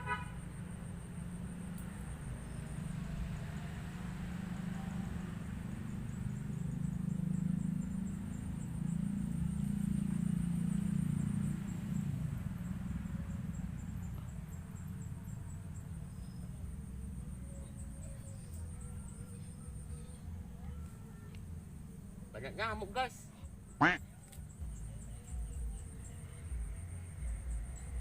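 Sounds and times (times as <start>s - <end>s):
insects droning: 0.0s - 28.0s
vehicle engine passing: 0.6s - 24.0s.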